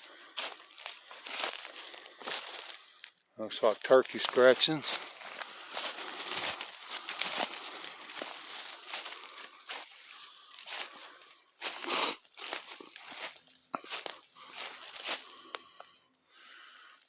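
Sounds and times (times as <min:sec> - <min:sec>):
footsteps crunching dry leaves: 0:00.0 - 0:16.0.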